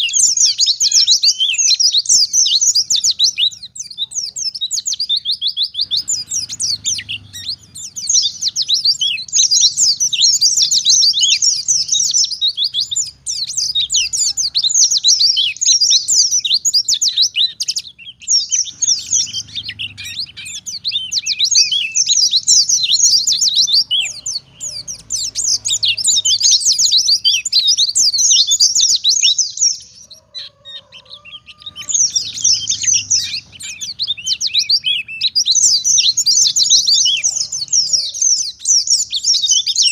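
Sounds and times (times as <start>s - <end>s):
small bird twittering song: 0.0s - 39.9s.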